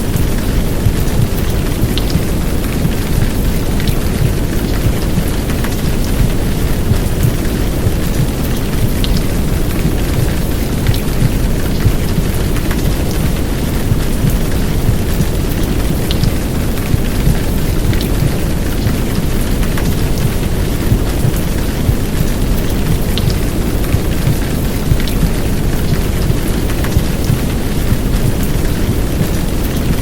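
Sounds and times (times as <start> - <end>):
heavy rain: 0.0 - 30.0
rain drops ticking: 0.0 - 30.0.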